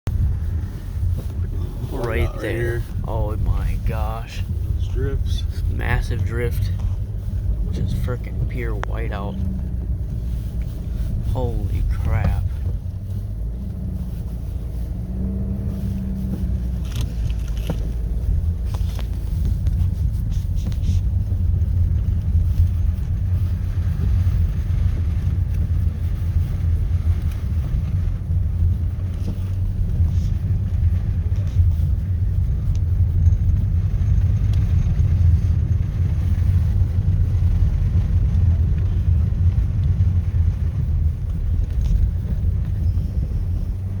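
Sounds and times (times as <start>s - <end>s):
car road and wind rumble: 0.0s - 44.0s.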